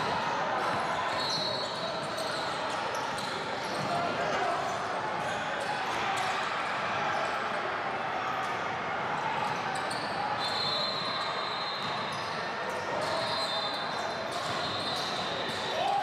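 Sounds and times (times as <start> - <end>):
hubbub of players and spectators: 0.0 - 16.0.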